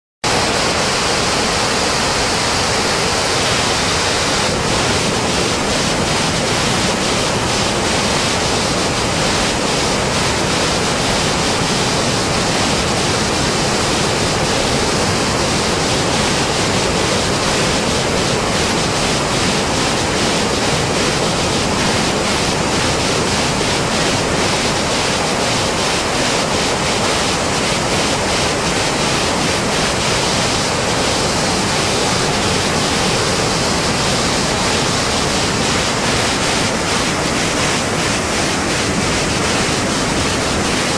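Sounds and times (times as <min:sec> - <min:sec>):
flood water rushing: 0:00.3 - 0:40.9.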